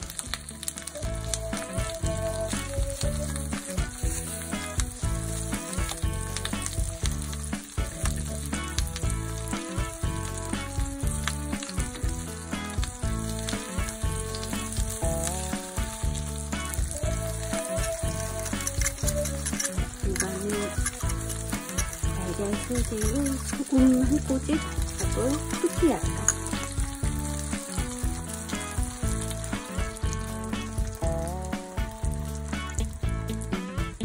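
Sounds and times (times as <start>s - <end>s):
background music with steady beat: 0.0s - 34.0s
tomato slices sizzling in oil: 0.0s - 34.0s.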